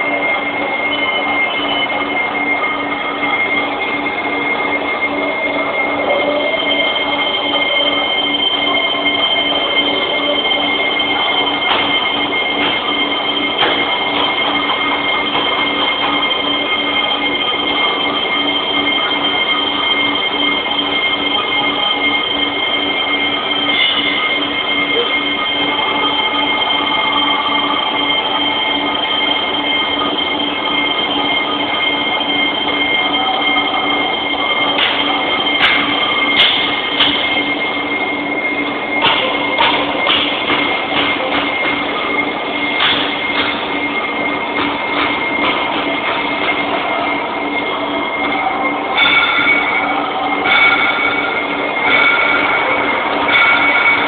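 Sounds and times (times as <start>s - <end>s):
lathe high-pitched whine: 0.0s - 54.0s
machining noise: 0.0s - 54.0s.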